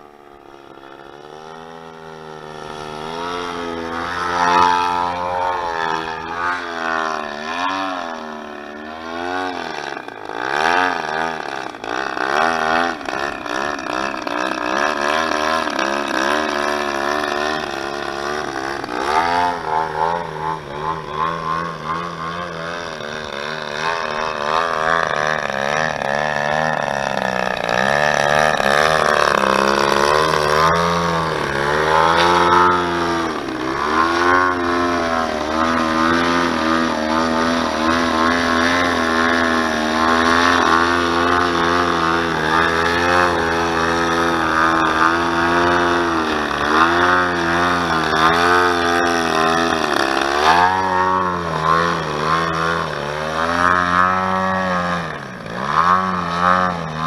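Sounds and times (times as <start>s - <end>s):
model plane engine revving: 0.0s - 57.0s.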